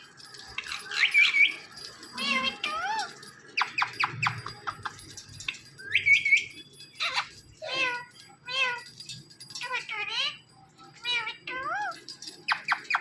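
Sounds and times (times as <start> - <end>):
parakeet calling: 0.6 - 9.0, 9.6 - 13.0.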